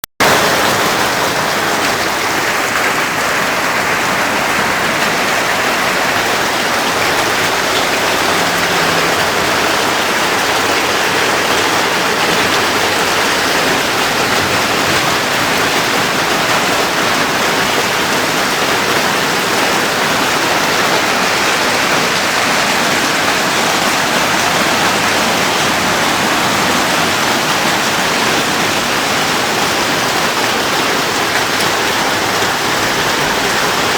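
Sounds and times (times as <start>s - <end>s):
torrential rain pouring: 0.2s - 33.9s.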